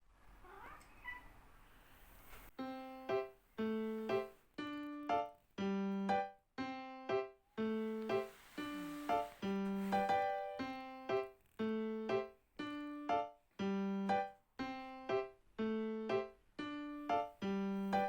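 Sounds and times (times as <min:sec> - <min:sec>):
keyboard music: 0:02.6 - 0:18.0.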